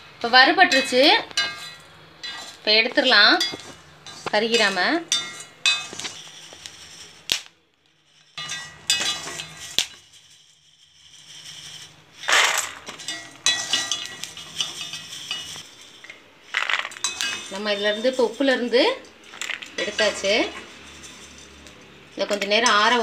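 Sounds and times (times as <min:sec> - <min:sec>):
peanuts rattling onto steel plate: 0:00.7 - 0:23.0
strainer scraping through salt: 0:02.2 - 0:07.3, 0:08.0 - 0:23.0.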